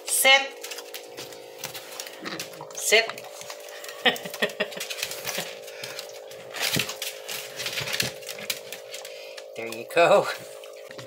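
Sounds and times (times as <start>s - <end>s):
steady hum: 0.0s - 11.0s
dog claws clicking on tile: 0.6s - 9.8s.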